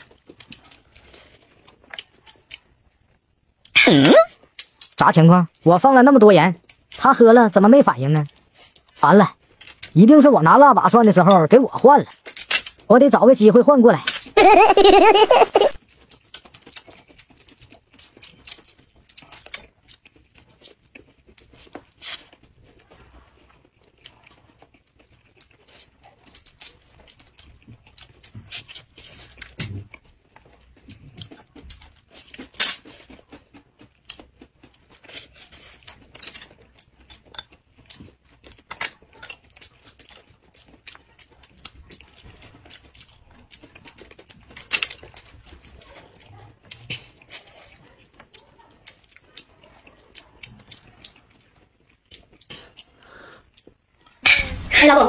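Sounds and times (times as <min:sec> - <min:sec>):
people chewing and crunching: 0:00.0 - 0:54.7.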